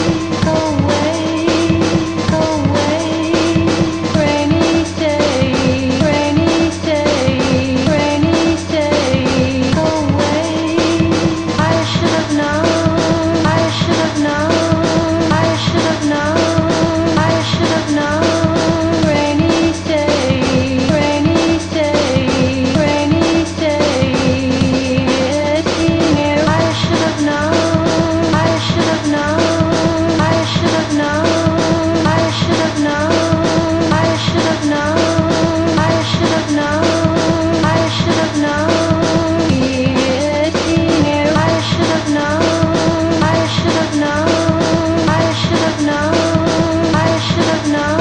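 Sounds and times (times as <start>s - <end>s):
song with drum beat and melodic loop: 0.0s - 48.0s.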